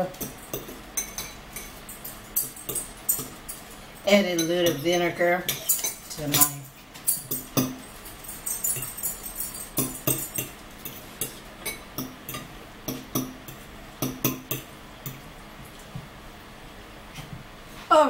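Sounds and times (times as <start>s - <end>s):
cutlery clinking on plates: 0.0s - 15.2s.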